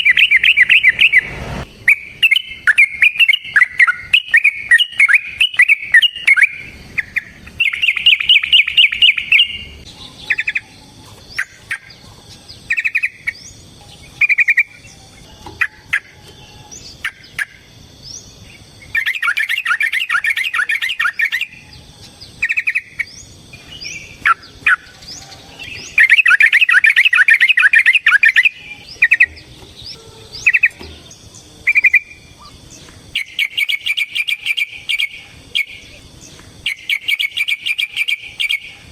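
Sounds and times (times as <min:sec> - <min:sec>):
bird bubbling song: 0:00.0 - 0:38.7
bird chirping phrases: 0:00.0 - 0:38.9.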